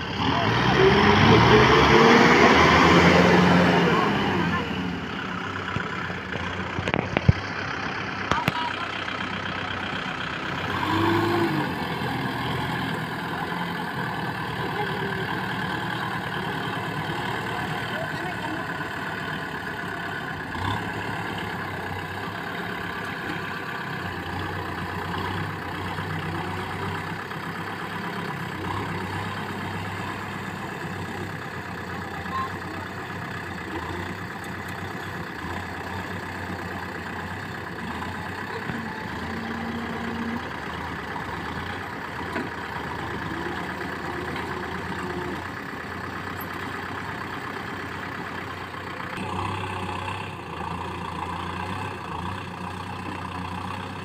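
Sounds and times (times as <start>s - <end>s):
tractor diesel engines running: 0.0s - 54.0s.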